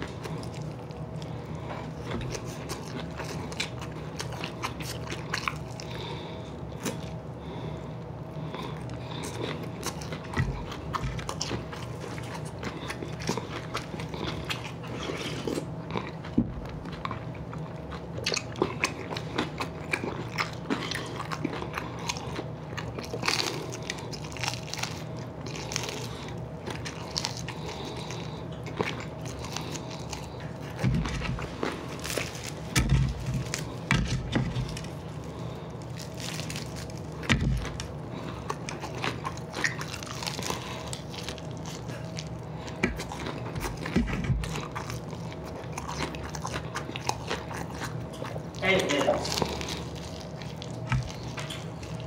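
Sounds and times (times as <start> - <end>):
person chewing crunchy chicken: 0.0 - 52.0.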